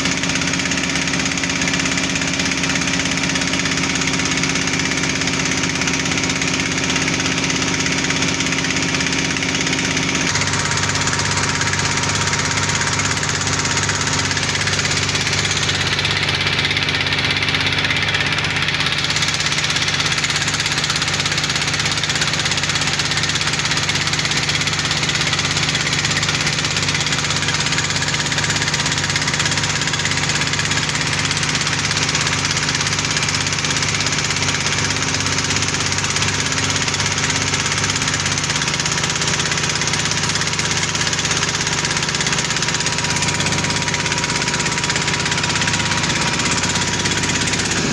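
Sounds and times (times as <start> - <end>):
drilling rig engine running: 0.0 - 47.9.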